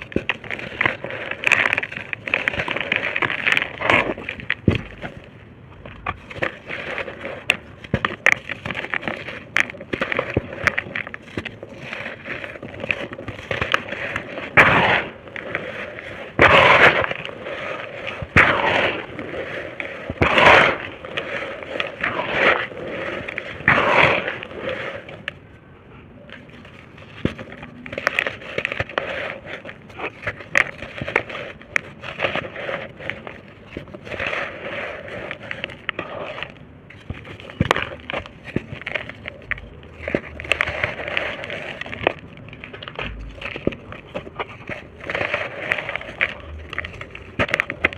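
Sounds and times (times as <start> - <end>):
dry dirt crunching and crumbling: 0.0 - 47.9.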